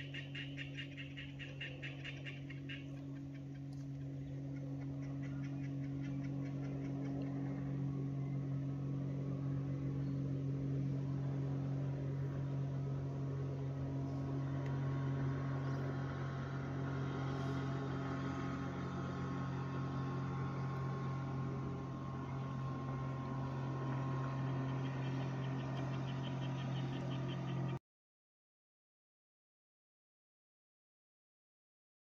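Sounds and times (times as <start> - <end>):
distant motorboat engine: 0.0 - 27.8.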